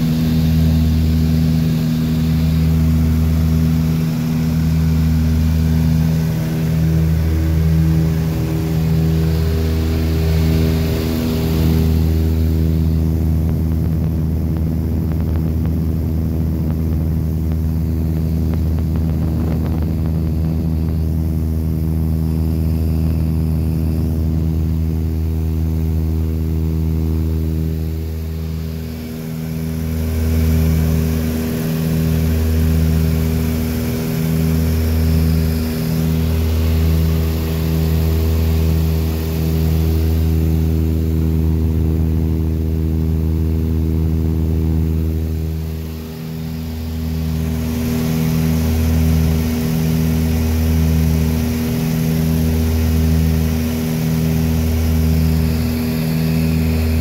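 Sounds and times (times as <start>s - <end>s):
propeller airplane engine droning: 0.0s - 57.0s.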